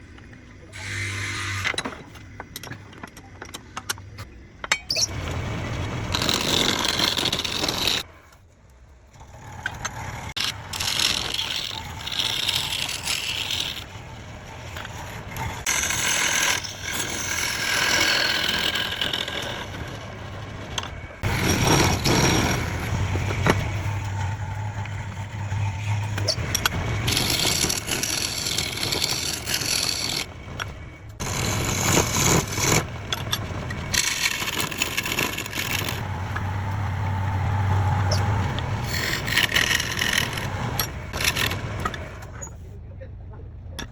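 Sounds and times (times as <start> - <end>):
turning tools scraping wood: 0.7 - 3.0, 5.1 - 8.4, 9.2 - 42.6
wood lathe motor hum: 5.2 - 8.0, 9.2 - 42.3.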